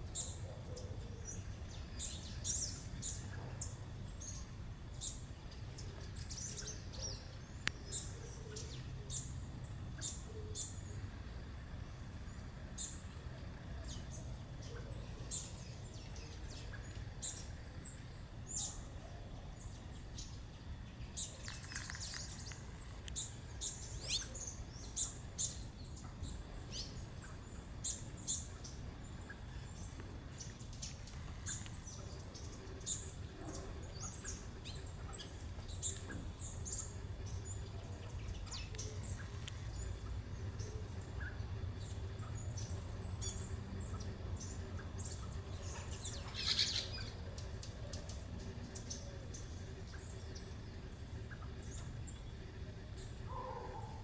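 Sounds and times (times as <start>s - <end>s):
birds chirping: 0.0s - 54.0s
low background rumble: 0.0s - 54.0s.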